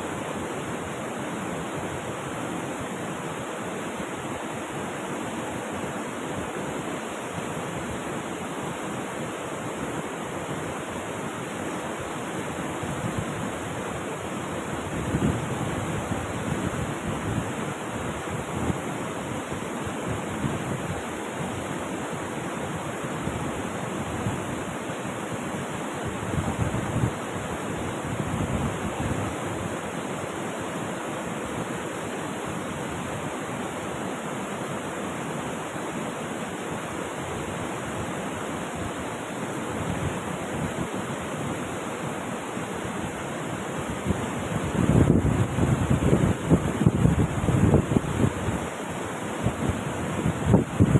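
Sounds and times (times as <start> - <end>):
rushing river water: 0.0 - 50.9.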